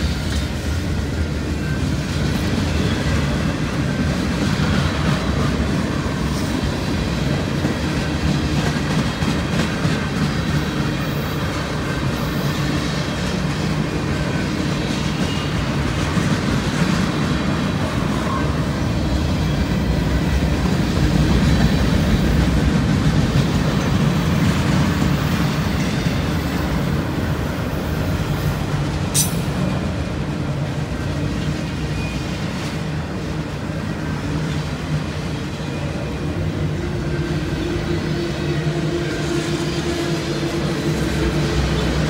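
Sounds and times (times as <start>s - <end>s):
steel wheels rumbling on rail: 0.0s - 42.0s.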